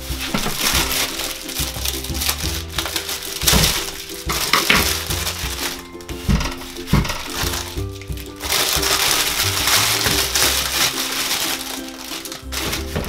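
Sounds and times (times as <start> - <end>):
background music: 0.0 - 13.0
plastic bag crinkling: 0.0 - 13.0.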